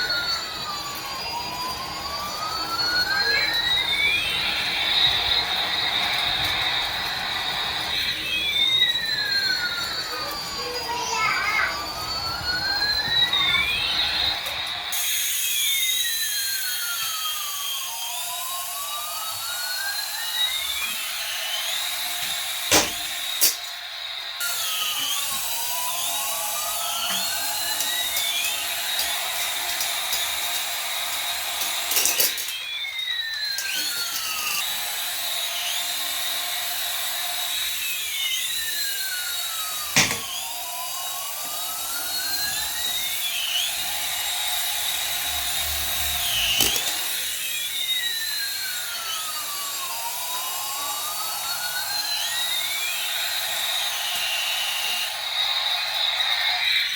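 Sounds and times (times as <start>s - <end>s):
toy whistle gliding down and up: 0.0s - 56.9s.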